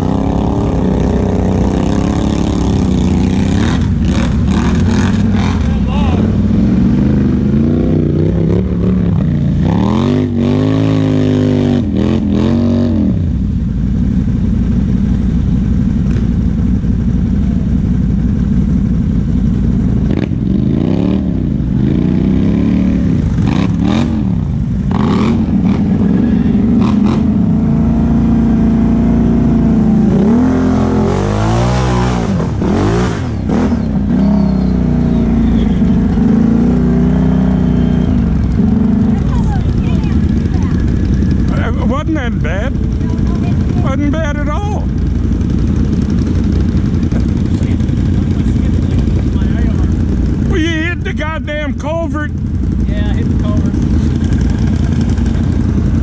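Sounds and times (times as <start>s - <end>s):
atv engine idling: 0.0s - 11.1s, 11.9s - 56.0s
atv engine revving: 0.0s - 56.0s.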